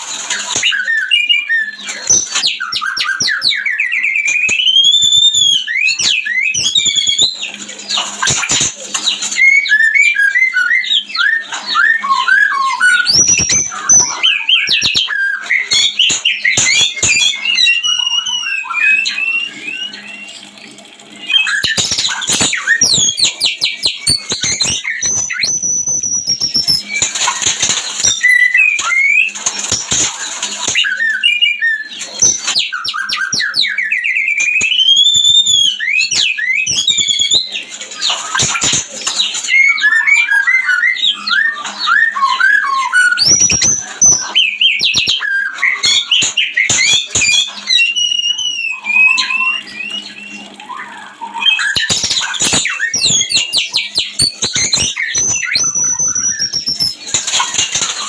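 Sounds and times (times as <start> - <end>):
bird singing whistled song: 0.2 - 20.6, 21.2 - 58.0.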